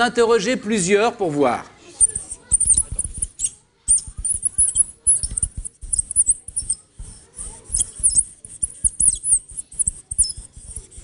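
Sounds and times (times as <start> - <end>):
polystyrene squeaking on glass: 2.0 - 11.0.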